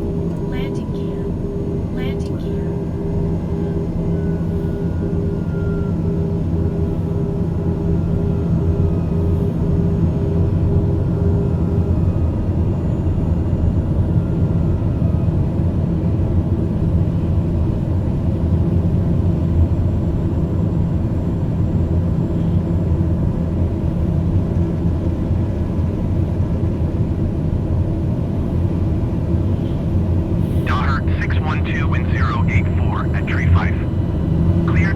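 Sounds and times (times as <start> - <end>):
aircraft engines droning: 0.0 - 34.9.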